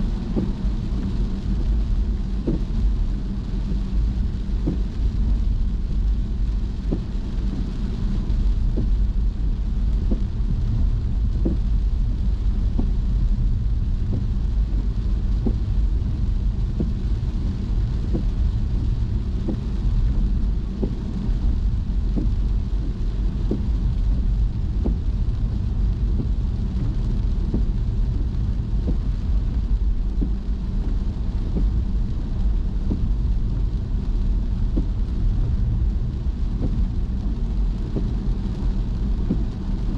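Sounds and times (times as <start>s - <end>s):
car engine and road rumble: 0.0s - 39.9s
rain hissing: 0.0s - 39.9s.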